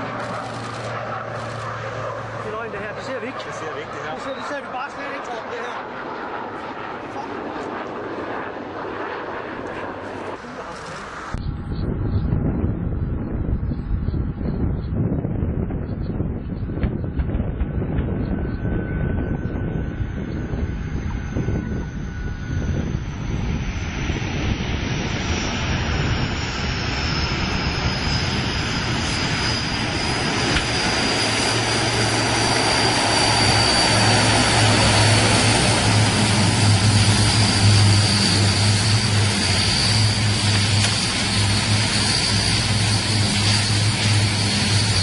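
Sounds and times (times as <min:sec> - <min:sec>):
high turbine whine: 0:00.0 - 0:45.0
low propeller hum: 0:00.0 - 0:45.0.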